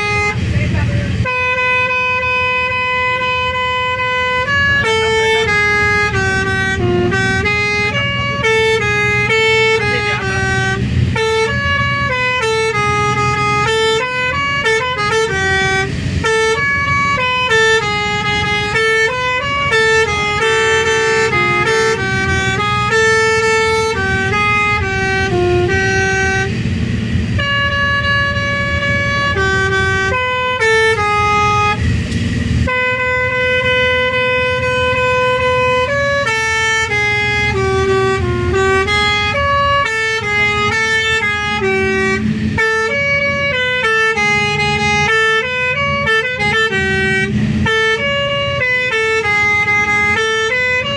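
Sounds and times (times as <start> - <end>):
low engine rumble: 0.0 - 50.9
tuned bus horns playing melody: 0.0 - 50.9.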